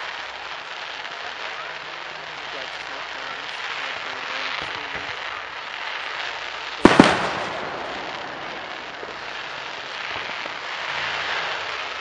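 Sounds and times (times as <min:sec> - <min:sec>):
fireworks bursting: 0:00.0 - 0:12.0
steady background hiss: 0:00.0 - 0:12.0.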